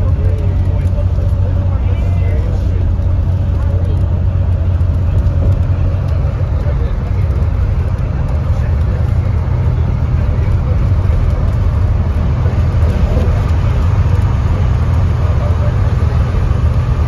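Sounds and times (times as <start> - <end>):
bus engine and tyre rumble: 0.0 - 17.0.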